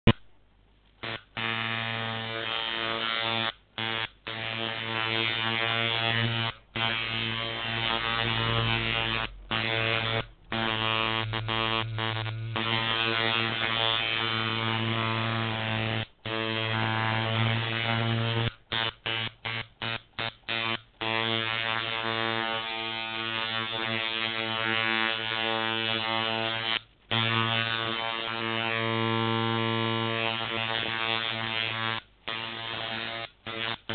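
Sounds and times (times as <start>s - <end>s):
tattoo machine buzzing: 1.0s - 33.9s.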